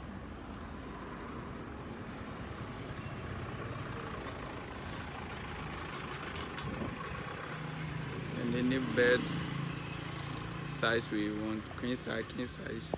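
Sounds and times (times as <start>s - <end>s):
road traffic: 0.0s - 12.9s.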